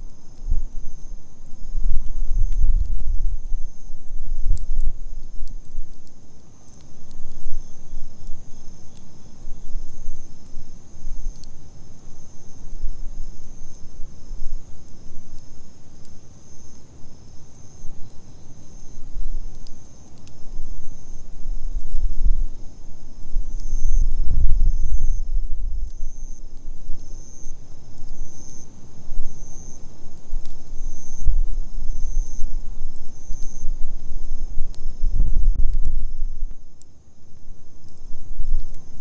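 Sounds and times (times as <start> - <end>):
campfire crackling: 0.0 - 39.0
insects trilling: 0.0 - 39.0.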